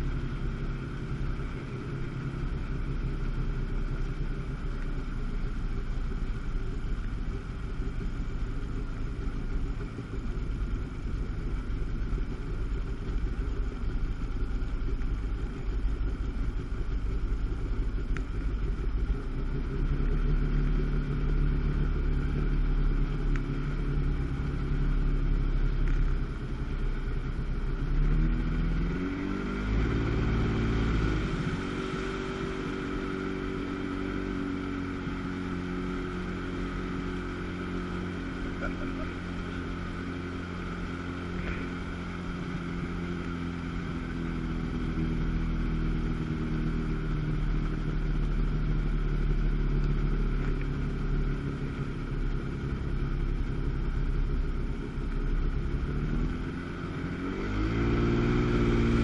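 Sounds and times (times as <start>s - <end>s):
jet ski engine droning: 0.0s - 59.0s.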